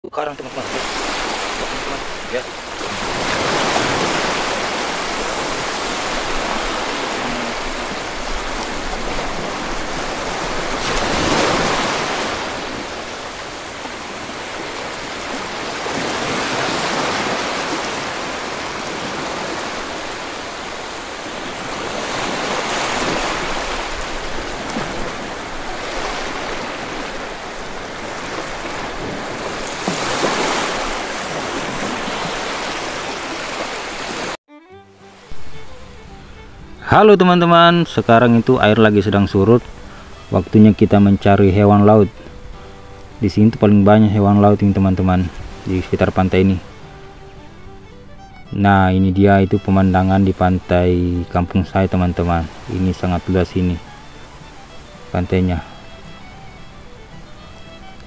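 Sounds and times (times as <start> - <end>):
surf and shallow seawater rushing: 0.2 - 58.0.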